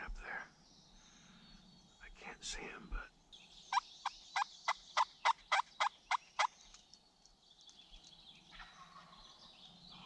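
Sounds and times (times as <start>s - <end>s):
faint songbird calls: 0.0s - 10.0s.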